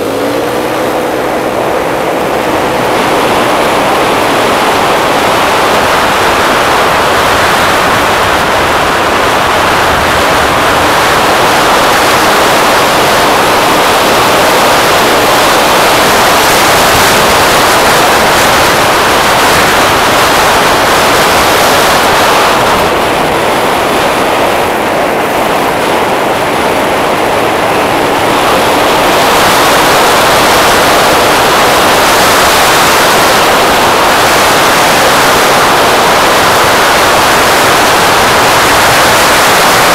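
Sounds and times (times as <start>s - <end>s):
scooter engine: 0.0s - 39.9s
wind rush on microphone: 0.0s - 39.9s.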